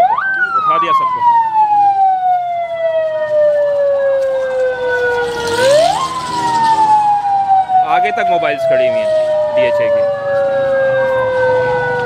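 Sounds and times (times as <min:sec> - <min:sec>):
vehicle siren wailing: 0:00.0 - 0:12.0.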